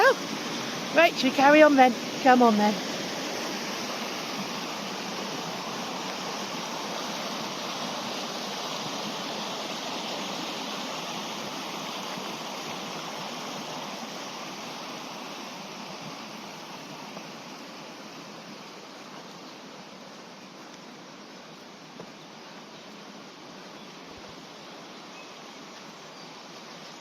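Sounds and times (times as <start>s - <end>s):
river rushing over rocks: 0.0s - 27.0s.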